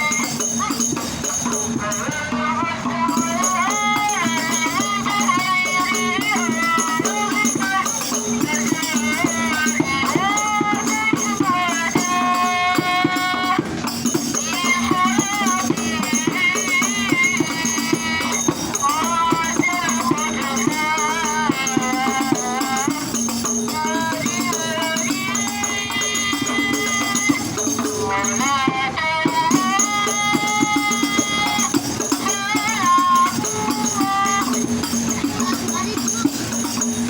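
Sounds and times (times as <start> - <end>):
frame drums beating fast rhythm: 0.0 - 37.0.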